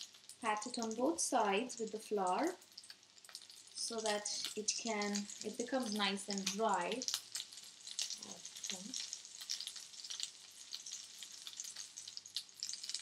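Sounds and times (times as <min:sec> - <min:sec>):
cutlet sizzling in a frying pan: 0:00.0 - 0:13.0.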